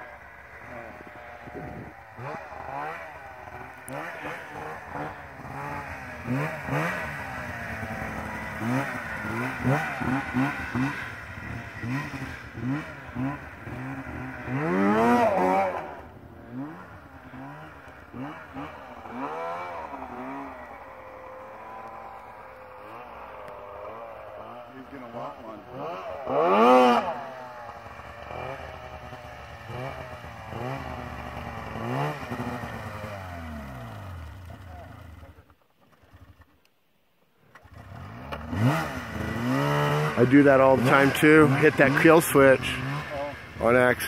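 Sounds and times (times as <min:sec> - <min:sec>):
snowmobile engine revving: 0:00.0 - 0:36.6, 0:37.5 - 0:44.0.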